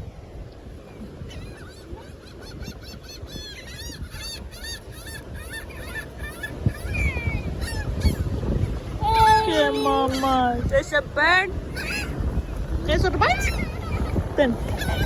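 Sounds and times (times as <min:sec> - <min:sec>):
surf: 0:00.0 - 0:15.0
wind: 0:00.0 - 0:15.0
seagulls squawking: 0:01.0 - 0:15.0.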